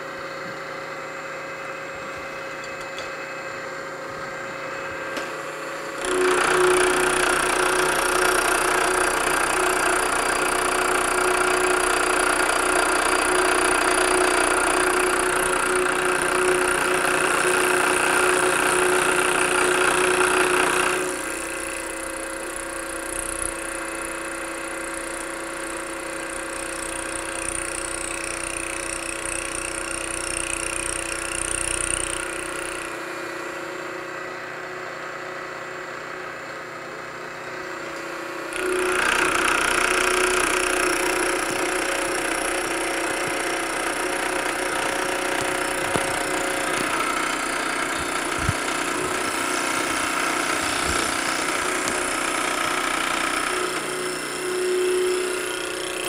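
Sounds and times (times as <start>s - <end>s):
milling machine cutting aluminium: 0.0s - 35.7s, 37.7s - 56.0s.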